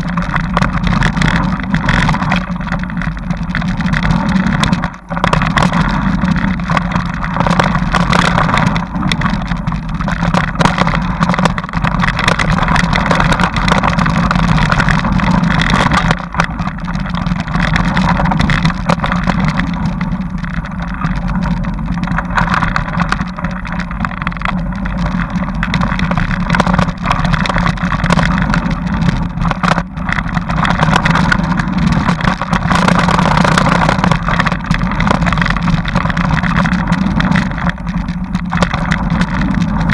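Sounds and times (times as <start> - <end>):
bike riding on dirt trail: 0.0 - 39.9.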